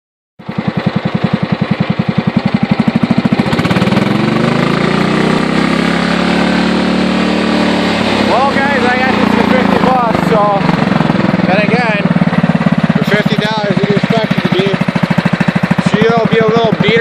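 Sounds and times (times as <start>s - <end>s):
lawn tractor engine running: 0.4s - 17.0s.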